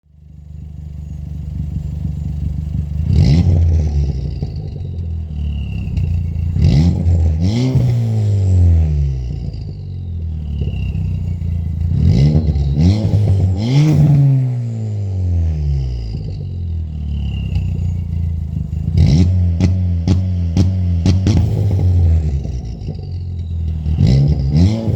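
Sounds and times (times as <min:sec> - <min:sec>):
car engine idling and revving: 0:00.0 - 0:24.9
exhaust crackles: 0:00.5 - 0:24.9.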